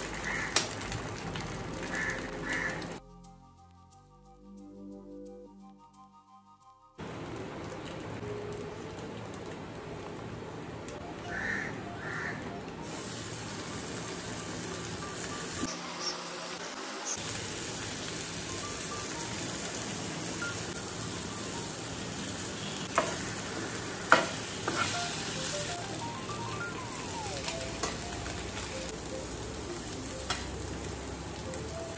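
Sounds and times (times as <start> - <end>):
vegetables sizzling in a frying pan: 0.0 - 3.0, 7.0 - 31.9
soft background music: 1.5 - 31.9.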